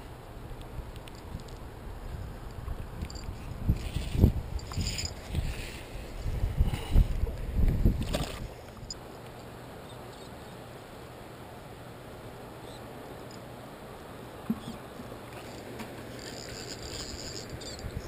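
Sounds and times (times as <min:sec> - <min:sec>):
moving water: 0:00.0 - 0:18.0
wind: 0:00.0 - 0:18.0.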